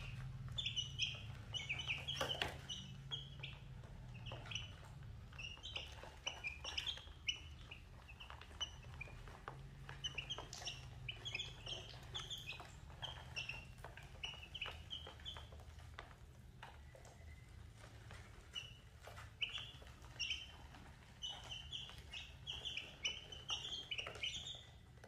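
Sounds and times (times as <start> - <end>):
baby chicks peeping: 0.0 - 25.0
beaks pecking on plastic tray: 0.0 - 25.0.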